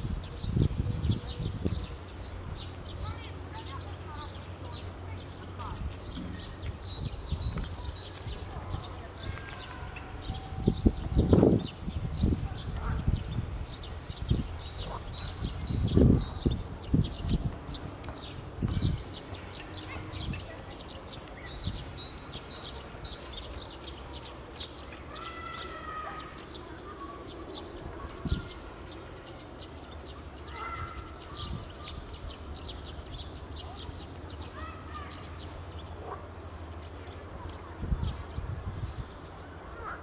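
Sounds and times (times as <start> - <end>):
small birds chirping: 0.0 - 40.0
longer lower bird calls: 0.2 - 40.0.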